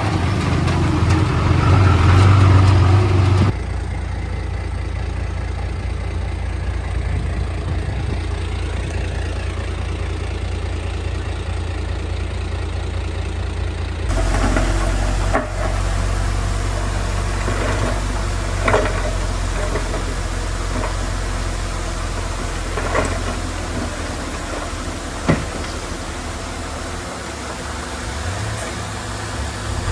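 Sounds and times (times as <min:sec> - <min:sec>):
heavy diesel engine humming: 0:00.0 - 0:29.9.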